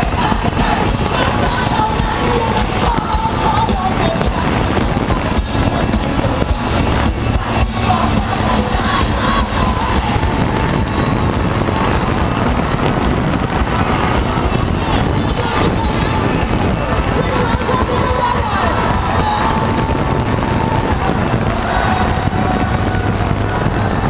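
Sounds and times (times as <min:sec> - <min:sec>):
faint live music: 0:00.0 - 0:24.0
wind noise: 0:00.0 - 0:24.0.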